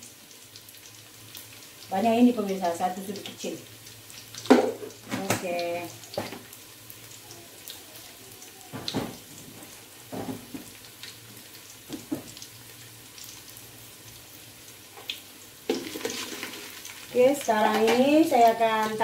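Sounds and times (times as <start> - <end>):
shallots sizzling in oil: 0.0 - 19.0.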